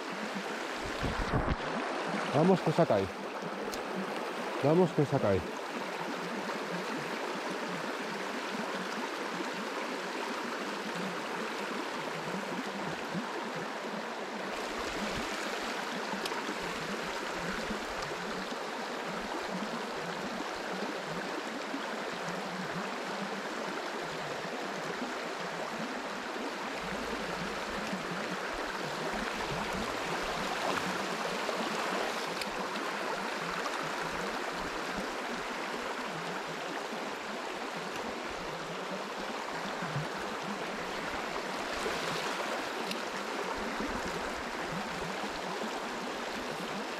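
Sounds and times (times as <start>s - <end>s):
river rushing over stones: 0.0s - 46.9s.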